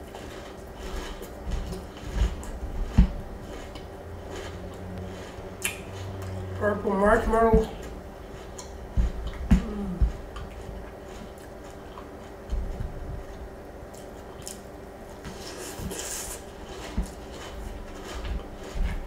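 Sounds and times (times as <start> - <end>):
crunchy cereal being chewed: 0.0 - 6.5, 7.2 - 19.0.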